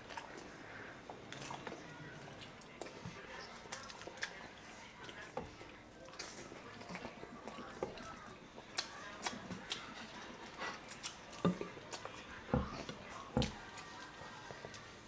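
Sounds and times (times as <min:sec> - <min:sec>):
chewing and lip smacks: 0:00.0 - 0:15.0.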